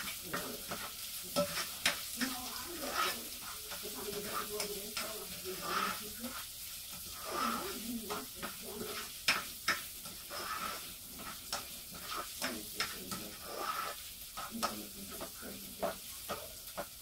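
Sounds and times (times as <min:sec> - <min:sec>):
onion sizzling in a pot: 0:00.0 - 0:17.0
spatula scraping and tapping pan: 0:00.0 - 0:17.0.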